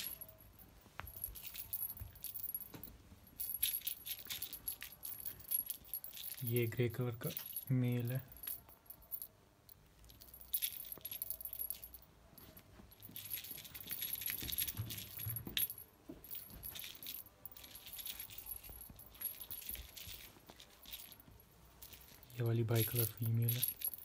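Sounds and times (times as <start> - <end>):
cat toy jingling and rattling: 0.0 - 24.0.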